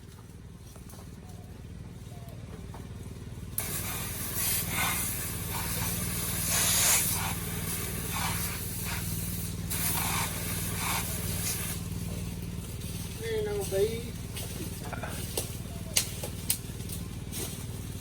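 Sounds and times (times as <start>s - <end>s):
surging hiss: 3.6s - 18.0s.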